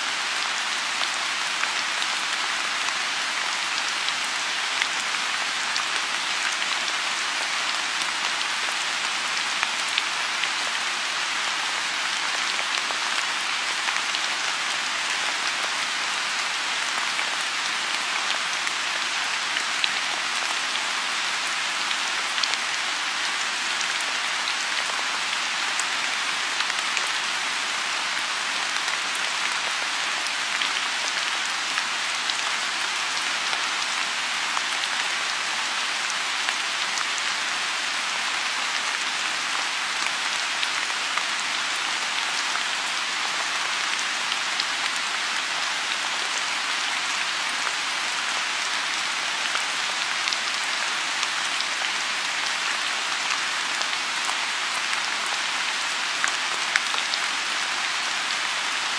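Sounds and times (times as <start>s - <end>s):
rain falling on a pond: 0.0s - 58.9s.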